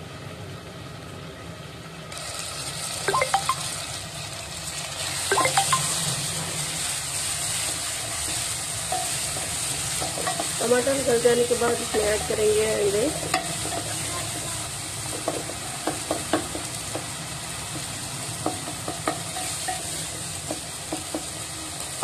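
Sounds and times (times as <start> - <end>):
food sizzling in a pot: 2.0 - 22.0.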